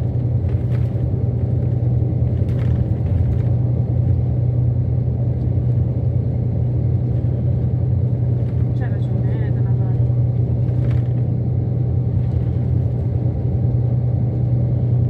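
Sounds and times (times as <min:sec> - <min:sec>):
vehicle rumble from inside cabin: 0:00.0 - 0:15.0.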